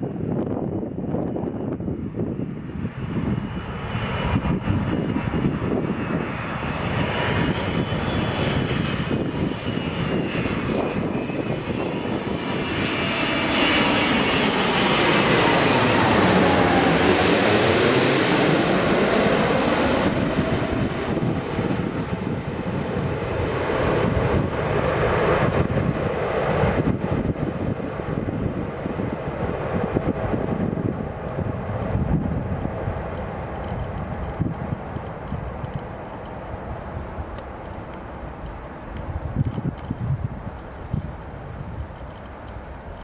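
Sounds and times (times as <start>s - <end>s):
jet engines passing close: 0.0s - 43.0s.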